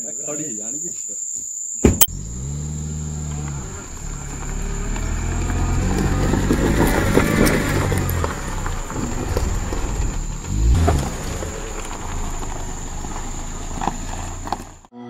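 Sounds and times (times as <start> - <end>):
stones crunching under tyres: 1.8 - 14.9
car engine running under load: 1.9 - 14.9.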